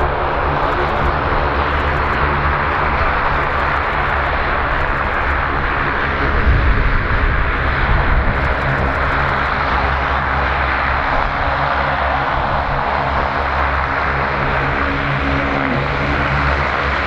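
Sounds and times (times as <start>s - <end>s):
propeller drone with hissing whine: 0.0s - 17.0s
turboprop engines running: 0.0s - 17.0s.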